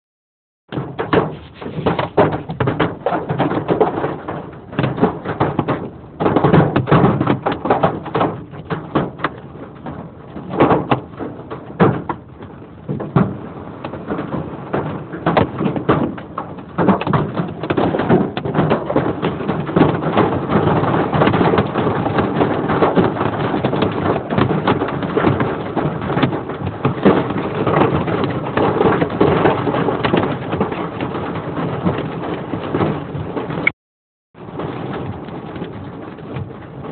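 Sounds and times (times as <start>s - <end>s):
hailstones pelting hard surfaces: 0.7s - 33.7s, 34.4s - 36.9s.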